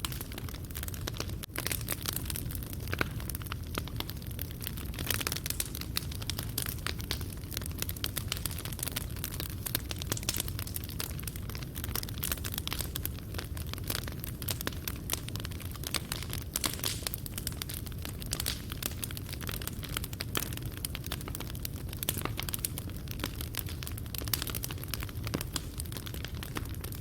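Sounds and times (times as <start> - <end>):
low rumble of flame: 0.0 - 27.0
wood fire crackling and popping: 0.0 - 27.0.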